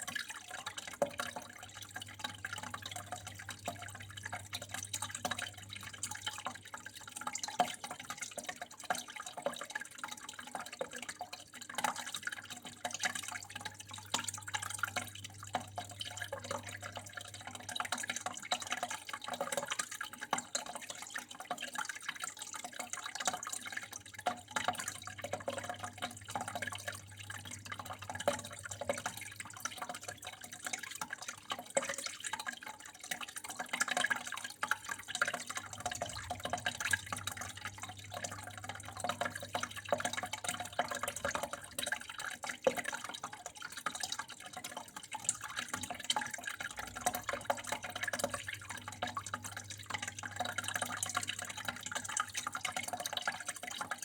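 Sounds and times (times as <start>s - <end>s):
water drips and splashes: 0.0s - 54.0s
water flowing and trickling: 0.0s - 54.0s.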